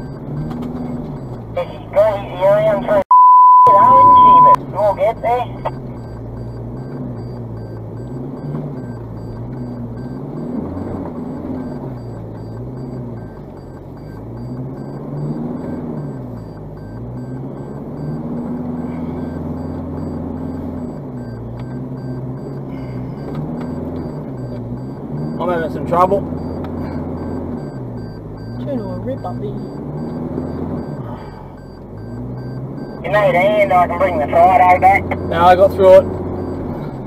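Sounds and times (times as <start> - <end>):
vehicle engine heard from inside cabin: 0.0 - 37.0.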